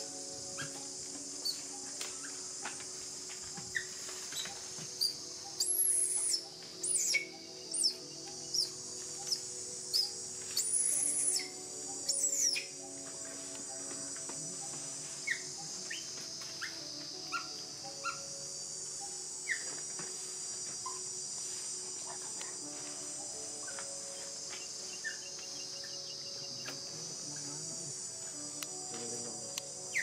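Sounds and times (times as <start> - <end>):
insects chorus: 0.0 - 30.0.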